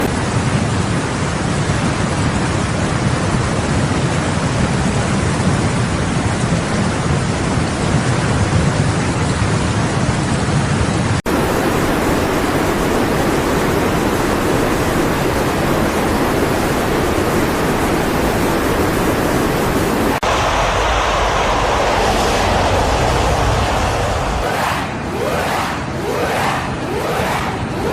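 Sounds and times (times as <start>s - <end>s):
heavy water noise: 0.0s - 27.9s.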